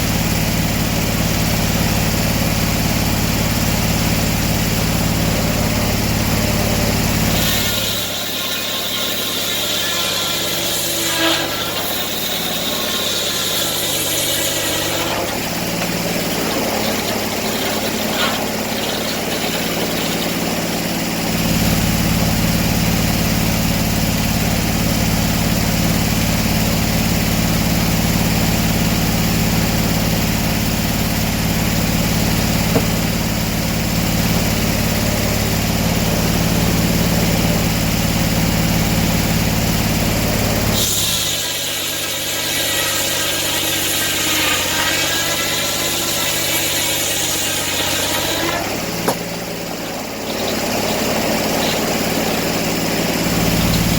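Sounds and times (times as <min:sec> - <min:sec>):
engine running: 0:00.0 - 0:53.9.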